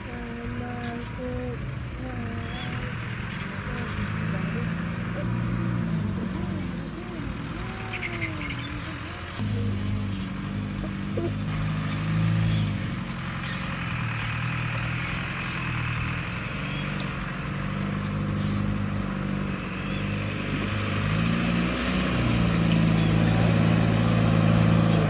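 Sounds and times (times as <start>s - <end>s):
diesel engine of heavy machinery: 0.0s - 25.0s.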